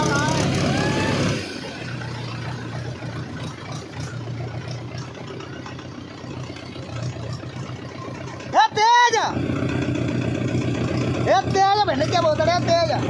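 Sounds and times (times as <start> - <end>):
tractor engine idling low: 0.0 - 13.0.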